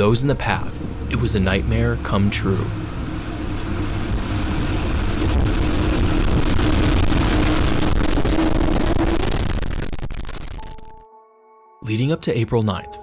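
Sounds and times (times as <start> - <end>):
wind roaring over microphone: 0.0 - 11.0.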